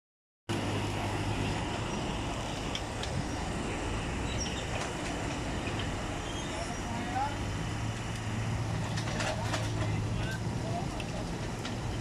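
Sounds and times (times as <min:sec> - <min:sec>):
diesel engine running: 0:00.5 - 0:12.0
street noise: 0:00.5 - 0:12.0.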